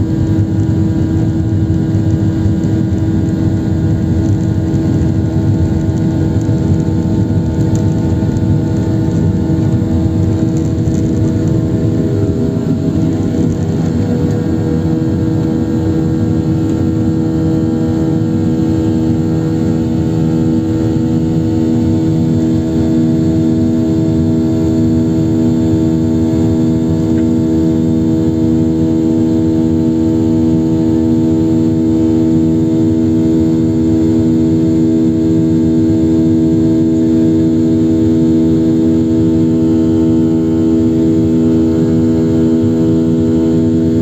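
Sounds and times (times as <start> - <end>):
airliner cabin engine drone: 0.0 - 44.0.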